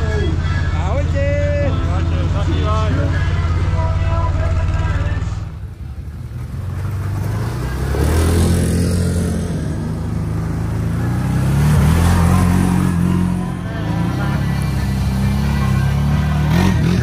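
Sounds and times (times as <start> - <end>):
quad bike engine revving: 1.2 - 17.0.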